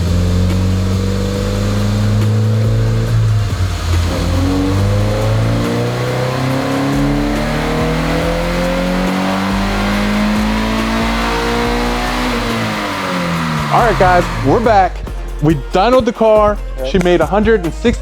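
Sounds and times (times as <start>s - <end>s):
car engine under load: 0.0s - 15.1s.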